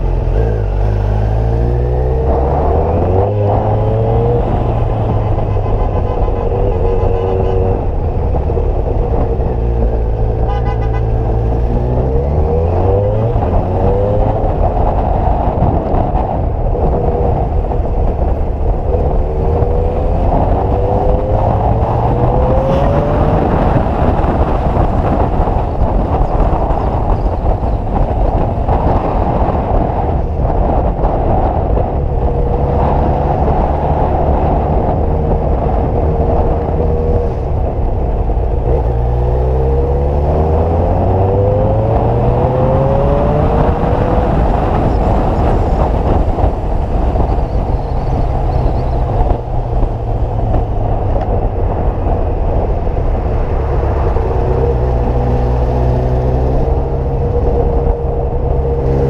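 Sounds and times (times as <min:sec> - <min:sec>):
motorcycle engine accelerating: 0:00.0 - 0:59.0
wind rush: 0:00.0 - 0:59.0.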